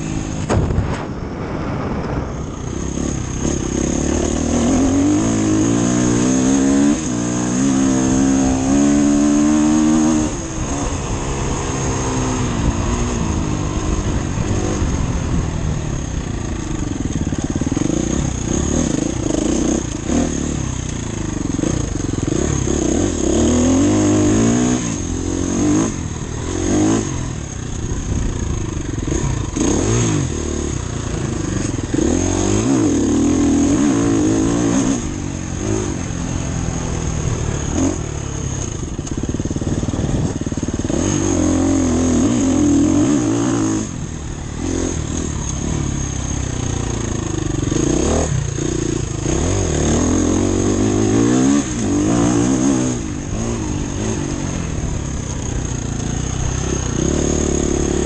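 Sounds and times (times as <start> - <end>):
off-road motorcycle engine revving: 0.0 - 58.0.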